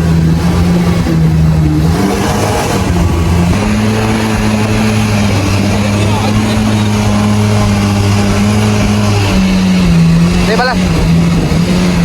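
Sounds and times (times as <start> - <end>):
jet boat engine running hard: 0.0 - 12.0
steady rush of noise: 0.0 - 12.0.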